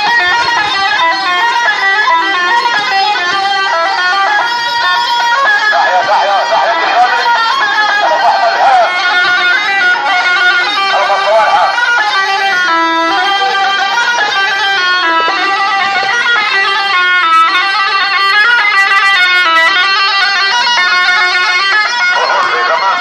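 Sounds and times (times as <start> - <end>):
instrumental party music: 0.0 - 23.0.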